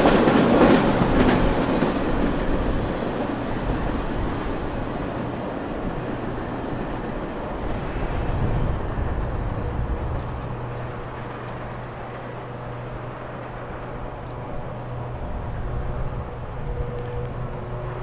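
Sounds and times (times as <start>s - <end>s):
distant freight train rumble: 0.0s - 18.0s.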